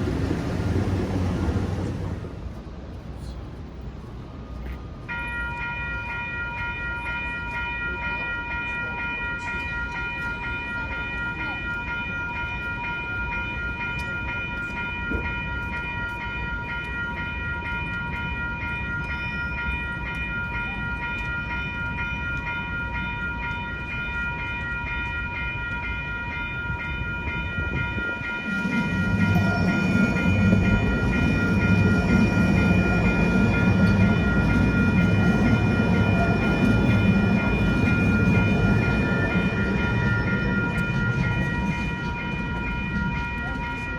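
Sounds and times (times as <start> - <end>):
railroad crossing bell ringing: 0.0 - 2.3, 4.6 - 43.9
tram rumbling through crossing: 0.0 - 43.9.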